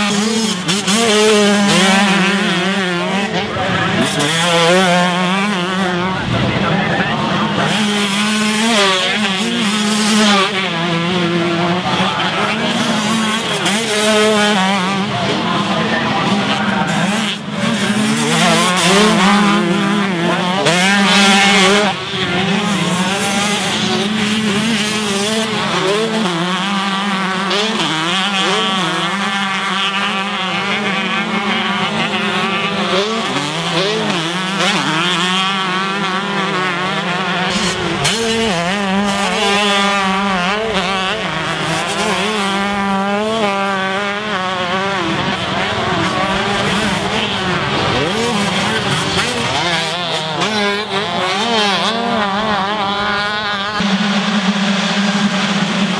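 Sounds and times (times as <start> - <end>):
motocross bikes revving: 0.0 - 55.9.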